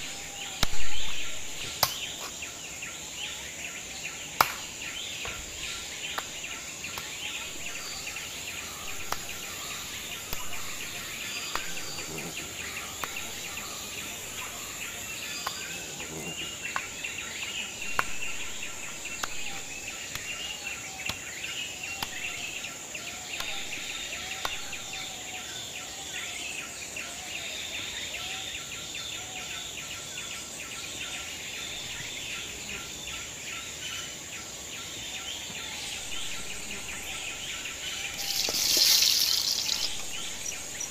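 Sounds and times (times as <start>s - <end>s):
birds calling: 0.0s - 25.8s, 31.2s - 40.9s
high insect drone: 0.0s - 40.9s.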